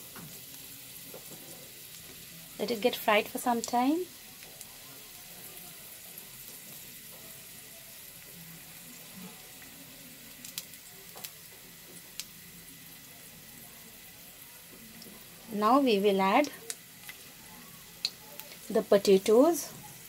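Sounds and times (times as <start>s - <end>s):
oil crackling: 0.0s - 13.3s, 14.3s - 20.0s
garlic sizzling in oil: 0.0s - 20.0s.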